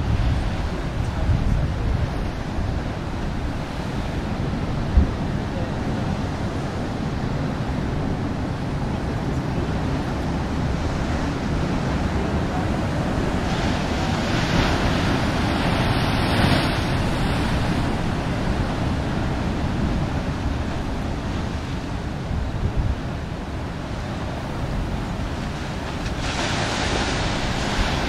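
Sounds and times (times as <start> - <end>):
ocean surf: 0.0 - 28.0
wind buffeting microphone: 0.0 - 28.0.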